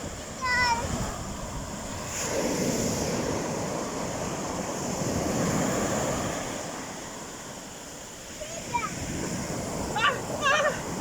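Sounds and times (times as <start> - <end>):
wind buffeting microphone: 0.0 - 6.9, 8.4 - 11.0
sea waves breaking on shore: 0.0 - 11.0.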